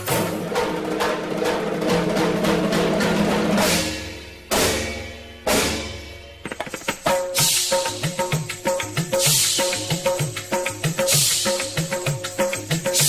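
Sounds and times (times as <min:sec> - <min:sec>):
fast drum beats: 0:00.0 - 0:04.9, 0:05.5 - 0:13.0.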